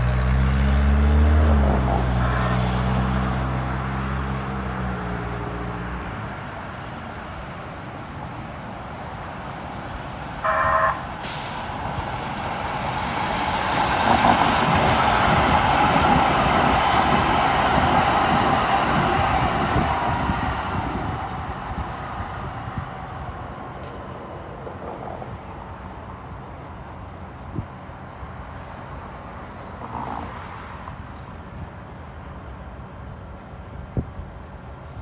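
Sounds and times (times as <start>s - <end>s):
light rail train rumble: 0.0s - 35.0s.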